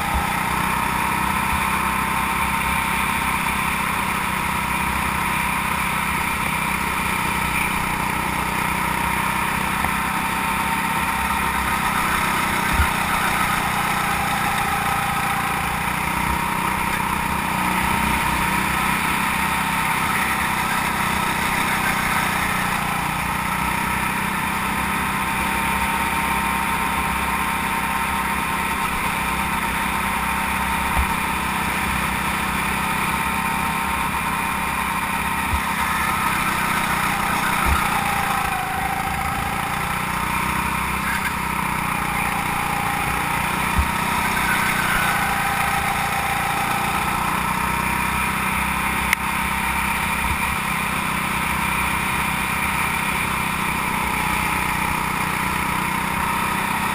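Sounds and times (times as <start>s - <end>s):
go-kart engine running: 0.0s - 56.9s.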